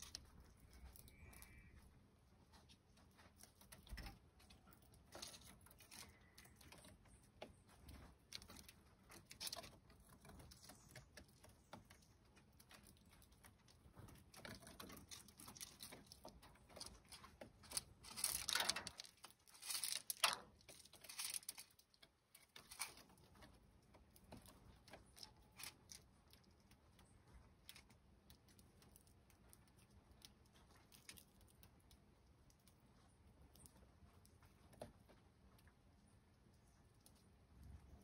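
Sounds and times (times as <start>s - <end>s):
bird feet and seeds rustling on wood: 0.0s - 38.0s.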